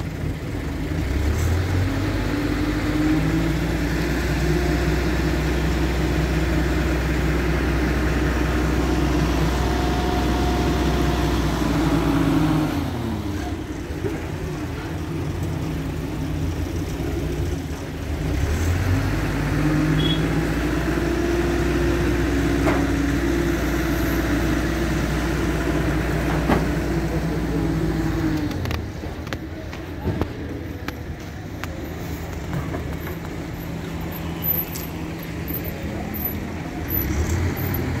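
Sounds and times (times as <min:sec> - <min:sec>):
heavy vehicle engine idling: 0:00.0 - 0:38.0.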